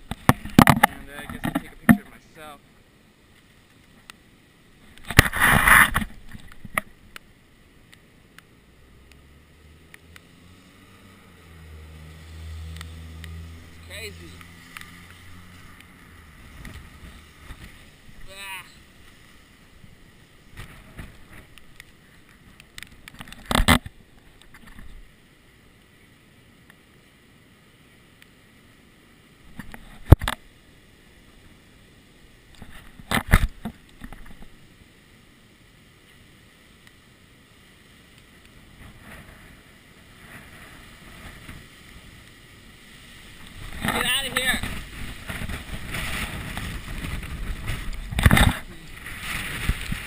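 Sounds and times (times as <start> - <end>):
muffled outdoor rumble: 0.0 - 50.0.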